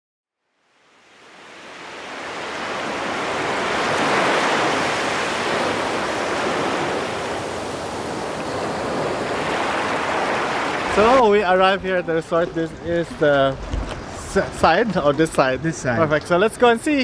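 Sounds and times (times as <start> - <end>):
wind: 0.3 - 17.0
lake water rushing: 0.7 - 17.0.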